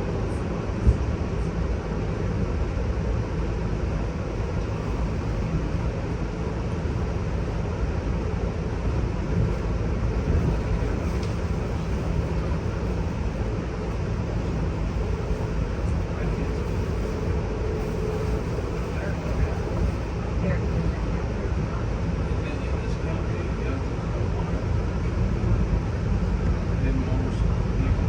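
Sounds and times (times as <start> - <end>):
faint steady hum: 0.0 - 28.0
train car rumbling on rails: 0.0 - 28.0.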